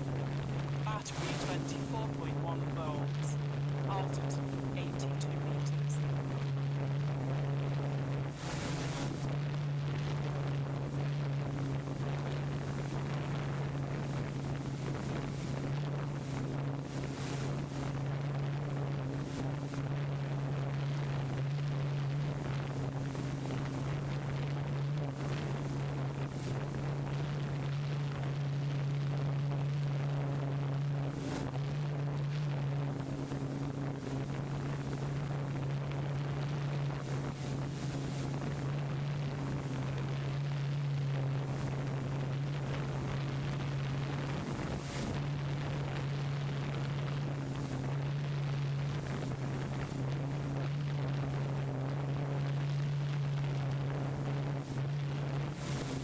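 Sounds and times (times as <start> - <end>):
low two-note hum: 0.0 - 56.0
wind noise on microphone: 5.5 - 56.0.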